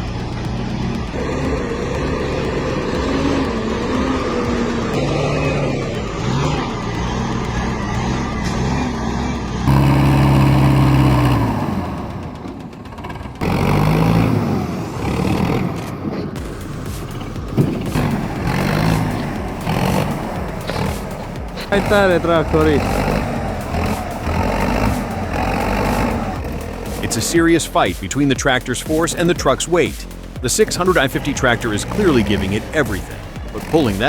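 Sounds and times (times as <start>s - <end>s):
diesel truck engines labouring: 0.0s - 34.0s.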